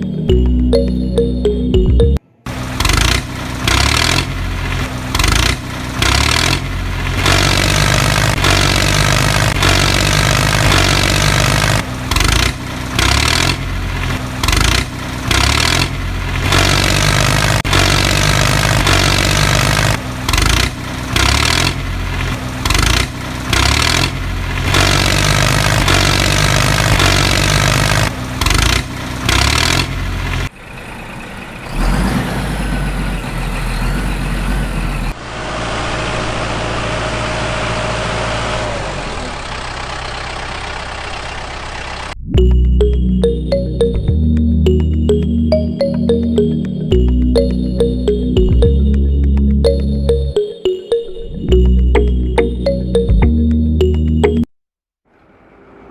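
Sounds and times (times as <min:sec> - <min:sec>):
vehicle engine running: 0:00.0 - 0:50.4, 0:51.5 - 0:54.4.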